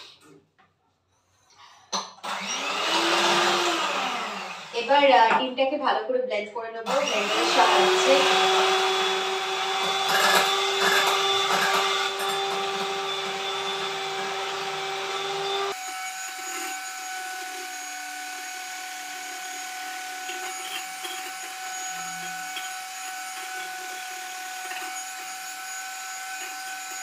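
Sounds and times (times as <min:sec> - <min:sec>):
electric hand mixer whining: 0:02.2 - 0:05.1, 0:06.9 - 0:27.0.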